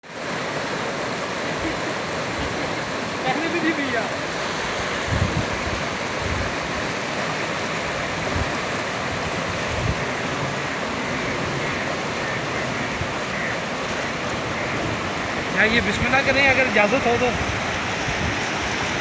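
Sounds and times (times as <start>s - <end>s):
fast-flowing water rushing: 0.0s - 19.0s.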